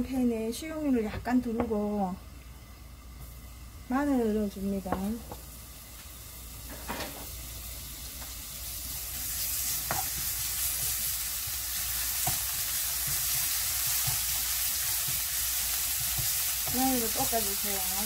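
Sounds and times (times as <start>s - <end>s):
garlic sizzling in hot oil: 1.8s - 18.0s.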